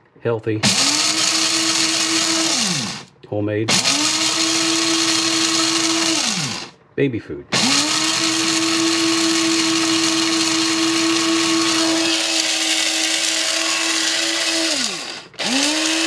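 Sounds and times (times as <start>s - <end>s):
electric coffee grinder grinding rice: 0.6s - 3.1s, 3.7s - 6.7s, 7.6s - 16.0s.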